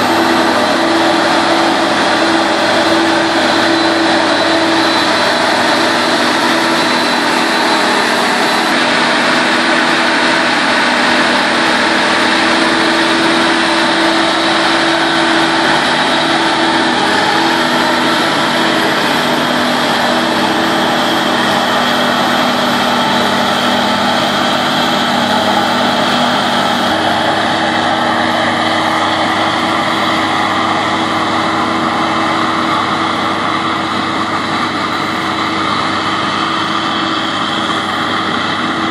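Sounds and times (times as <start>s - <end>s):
forage harvester droning: 0.0s - 38.9s.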